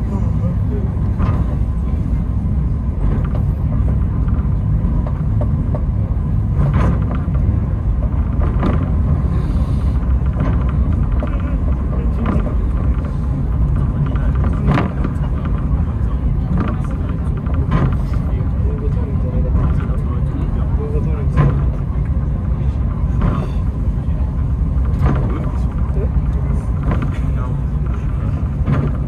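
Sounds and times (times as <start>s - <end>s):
funicular car rumbling: 0.0s - 29.0s
wheels clicking on track: 0.0s - 29.0s.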